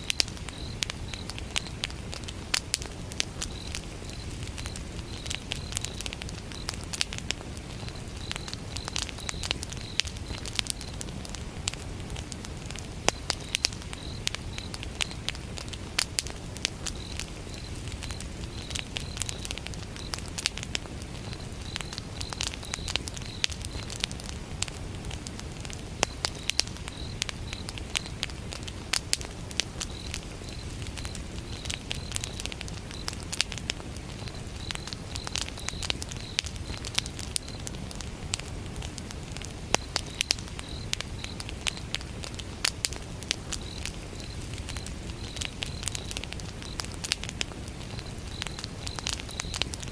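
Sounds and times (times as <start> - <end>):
crickets chirping: 0.0 - 49.9
wood fire crackling: 0.0 - 49.9.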